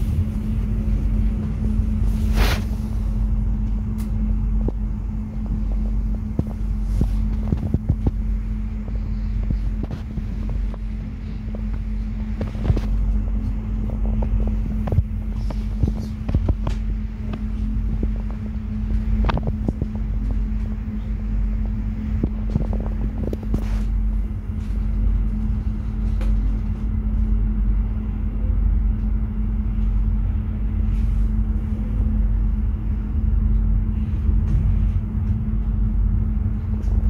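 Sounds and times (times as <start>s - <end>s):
train rumble inside carriage: 0.0s - 37.0s.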